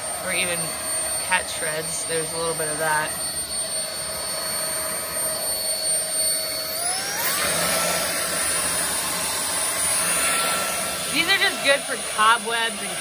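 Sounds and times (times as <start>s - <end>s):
stick vacuum motor whine: 0.0s - 13.0s.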